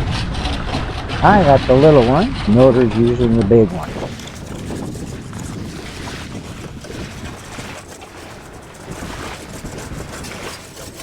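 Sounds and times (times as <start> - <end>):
scrapers rasping on boat hull: 0.0 - 11.0.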